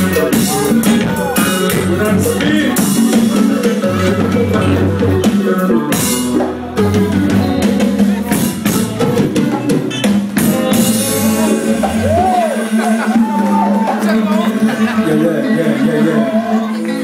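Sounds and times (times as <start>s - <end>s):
drum kit hits: 0.0s - 14.0s
live band playing: 0.0s - 17.0s
steady bass line: 0.0s - 17.0s.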